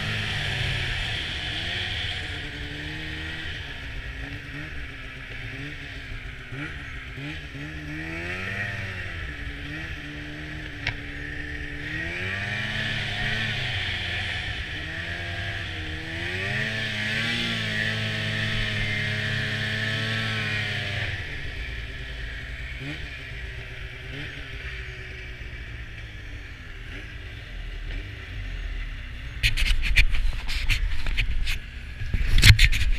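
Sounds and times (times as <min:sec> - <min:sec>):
snowmobile engine revving: 0:00.0 - 0:28.7.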